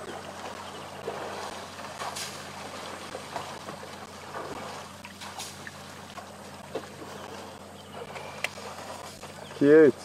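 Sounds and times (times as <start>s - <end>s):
short splats: 0.0s - 9.4s
faint low hum: 0.0s - 10.0s
water sloshing and splashing: 0.0s - 10.0s.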